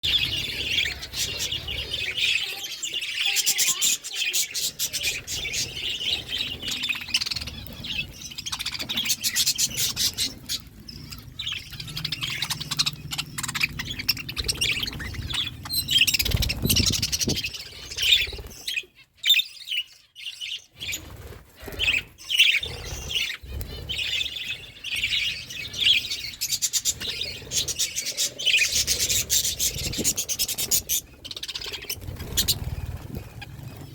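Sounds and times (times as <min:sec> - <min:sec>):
budgerigars chirping and chattering: 0:00.0 - 0:33.9.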